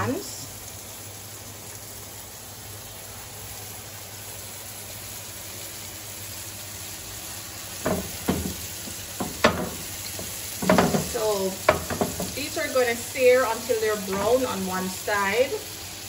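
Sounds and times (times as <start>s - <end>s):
burger patties sizzling in a pan: 0.0s - 16.0s.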